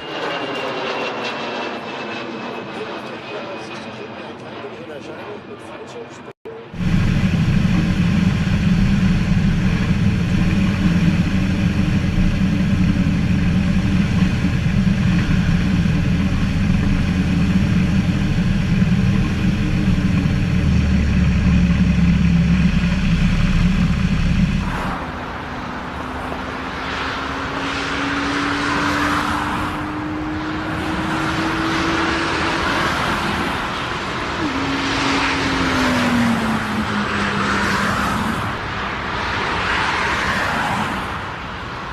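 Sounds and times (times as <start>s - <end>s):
aircraft engine rumble: 0.0s - 41.9s
aircraft engine whine: 0.0s - 41.9s.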